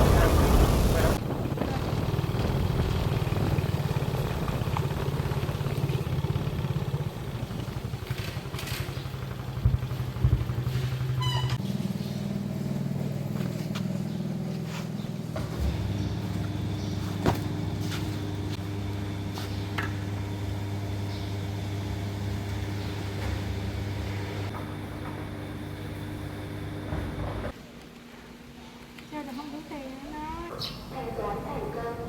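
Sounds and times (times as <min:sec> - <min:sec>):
motorbike engine running: 0:00.0 - 0:27.6.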